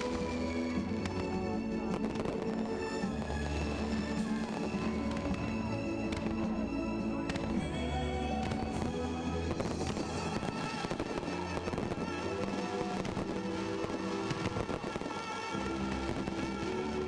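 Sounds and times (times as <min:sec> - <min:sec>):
fireworks bangs and crackles: 0:00.0 - 0:17.0
music with steady notes: 0:00.0 - 0:17.0.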